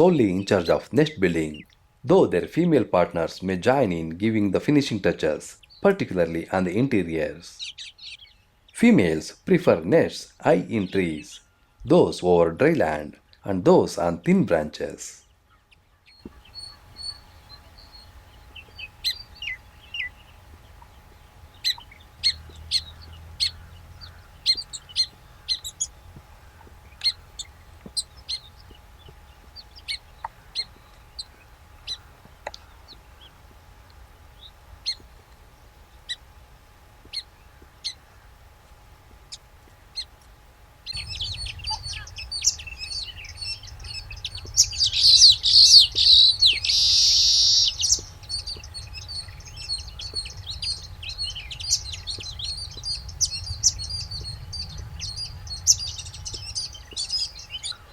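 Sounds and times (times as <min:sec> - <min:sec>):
birds chirping and chattering: 0:00.0 - 0:57.9.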